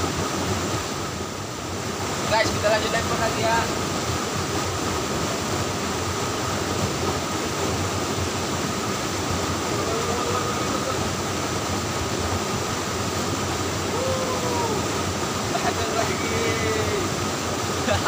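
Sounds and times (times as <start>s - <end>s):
stream water splashing into pool: 0.0s - 18.0s.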